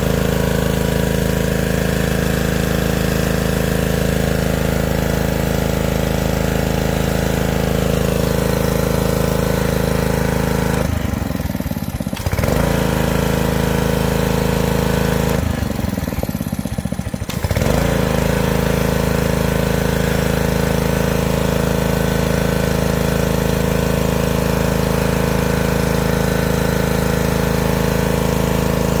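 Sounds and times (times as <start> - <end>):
engine running at high speed: 0.0 - 29.0.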